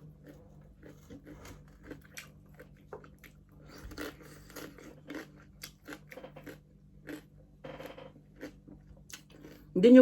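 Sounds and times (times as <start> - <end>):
person chewing crunchy food: 0.0 - 9.7.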